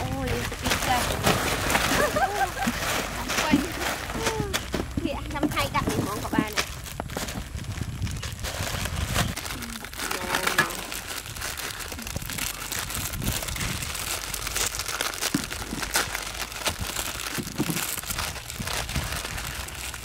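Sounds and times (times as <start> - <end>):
plastic packets crinkling and tearing: 0.0 - 20.0.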